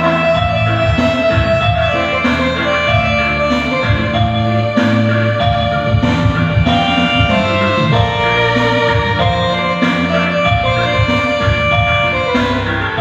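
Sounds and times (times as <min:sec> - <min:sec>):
keyboard melody with bass: 0:00.0 - 0:13.0
keyboard percussion accompaniment: 0:00.0 - 0:13.0.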